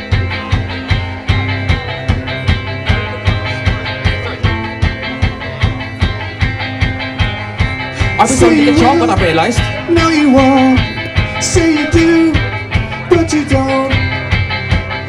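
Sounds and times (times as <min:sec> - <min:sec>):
live band playing: 0:00.0 - 0:15.0
steady drum beat: 0:00.0 - 0:15.0.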